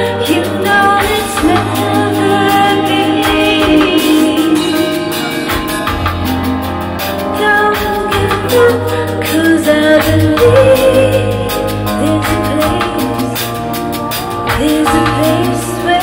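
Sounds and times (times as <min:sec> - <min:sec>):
woman singing: 0:00.0 - 0:06.6, 0:07.2 - 0:13.6, 0:14.4 - 0:16.0
electric bass guitar: 0:00.0 - 0:16.0.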